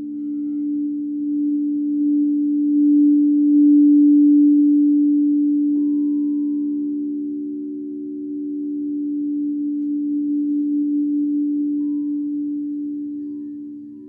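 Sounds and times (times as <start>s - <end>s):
singing bowl humming: 0.0s - 14.0s.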